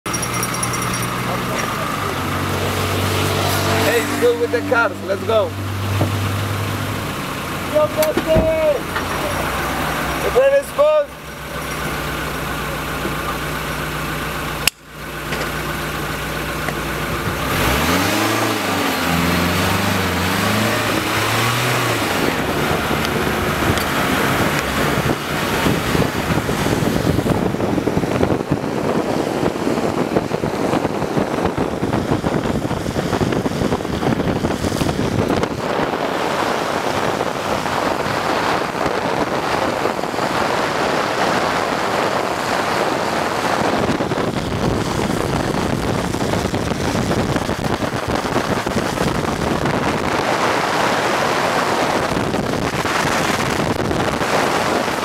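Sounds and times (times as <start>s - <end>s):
car engine idling and revving: 0.0s - 55.0s
wind and road noise: 0.0s - 55.0s.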